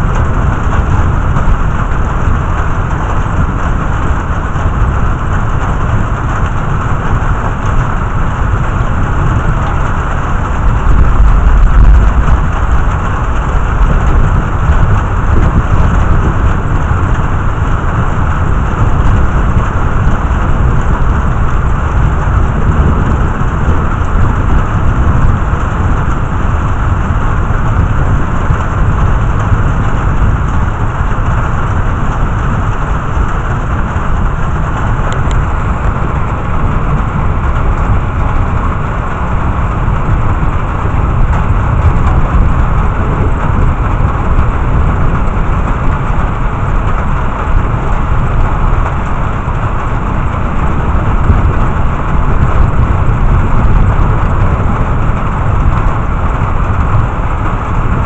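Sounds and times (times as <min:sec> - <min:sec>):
heavy rain pouring: 0:00.0 - 0:58.0
low thunder rumble: 0:00.0 - 0:58.0.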